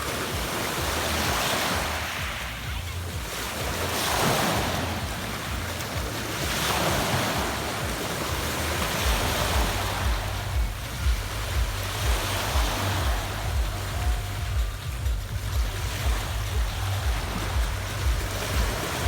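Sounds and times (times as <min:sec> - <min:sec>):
waves washing on pebble beach: 0:00.0 - 0:19.0
wind rumbling on microphone: 0:00.0 - 0:19.0.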